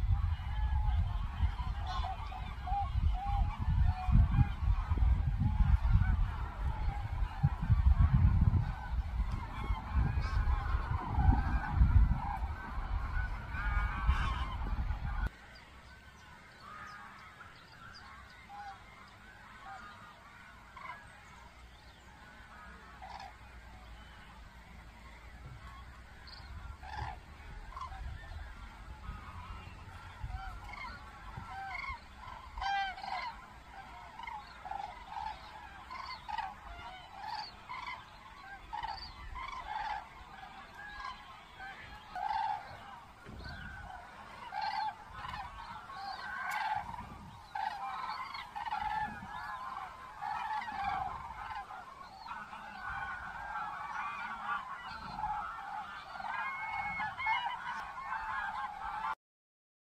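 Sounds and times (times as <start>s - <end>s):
cranes trumpeting calls: 0.1s - 15.4s, 16.0s - 59.2s.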